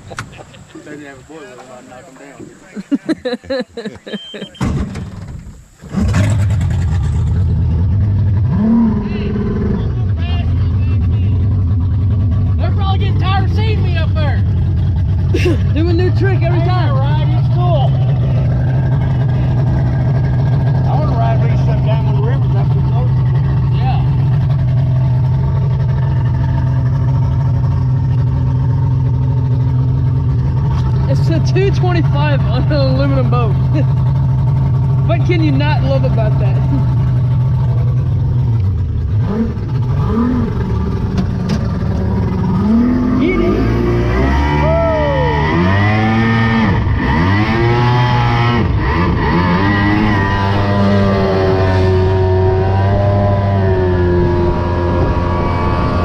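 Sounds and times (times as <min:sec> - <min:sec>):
outboard motor droning: 0:00.0 - 0:56.0.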